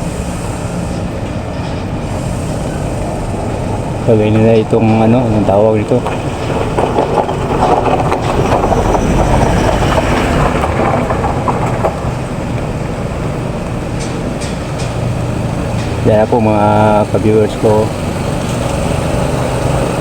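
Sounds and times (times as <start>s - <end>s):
road noise: 0.0s - 20.0s
rumbling vehicle engine: 0.0s - 20.0s.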